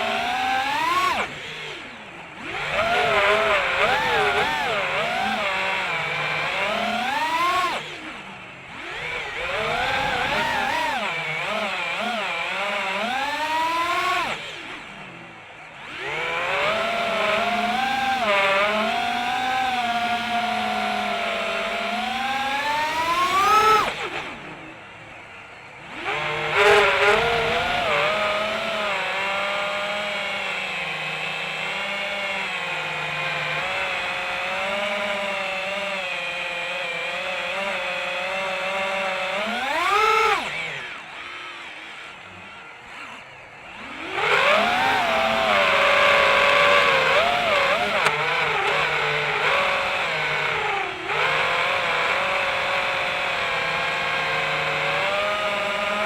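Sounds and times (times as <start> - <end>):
model motors whining: 0.0 - 56.0.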